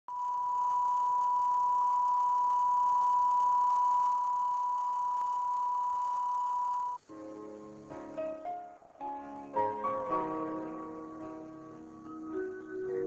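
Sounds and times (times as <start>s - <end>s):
faint tape hiss: 0.1s - 13.0s.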